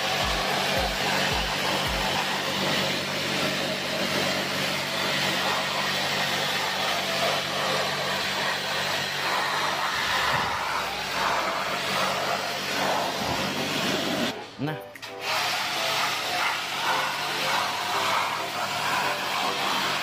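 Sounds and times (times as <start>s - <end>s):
pressure washer water spray: 0.0s - 14.4s, 15.0s - 20.0s
pressure washer motor hum: 0.0s - 20.0s.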